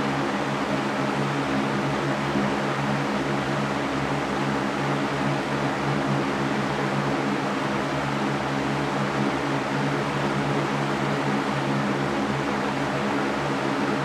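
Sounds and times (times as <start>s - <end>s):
electric fan air rush: 0.0s - 14.0s.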